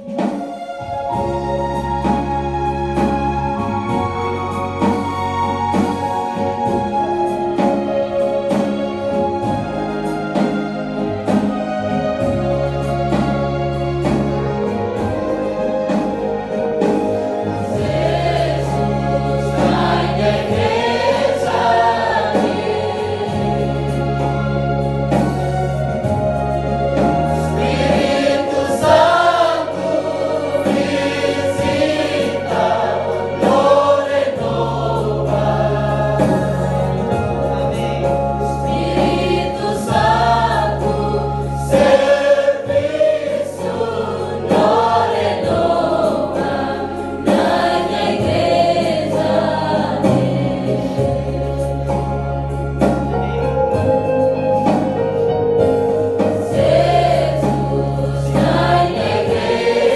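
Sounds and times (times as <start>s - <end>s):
choir singing a worship song: 0.0s - 59.9s
held low bass notes: 1.1s - 59.9s.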